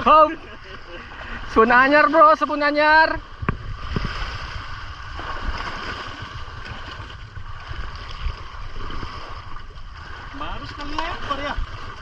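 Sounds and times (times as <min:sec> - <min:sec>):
water washing: 0:00.0 - 0:12.0
wind buffeting microphone: 0:00.0 - 0:12.0.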